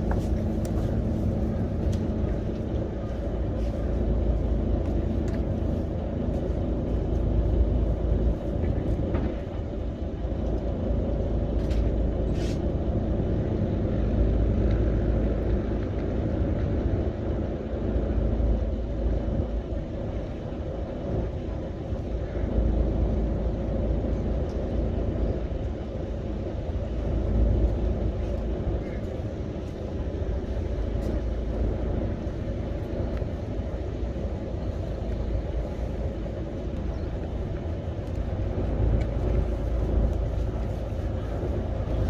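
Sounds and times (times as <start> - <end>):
boat engine idling: 0.0 - 42.0.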